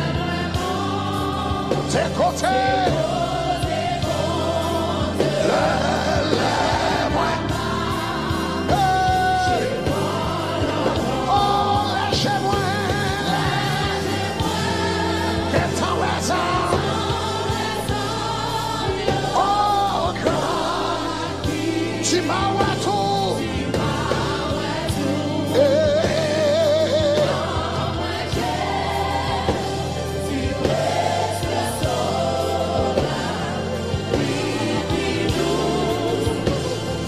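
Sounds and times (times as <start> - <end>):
live band with drums: 0.0 - 37.0
voices singing together: 0.0 - 37.0.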